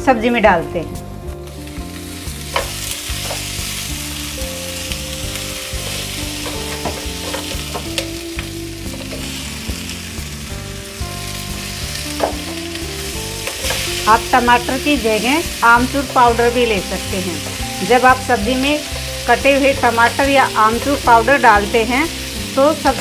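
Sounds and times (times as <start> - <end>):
food sizzling in a frying pan: 1.0 - 23.0.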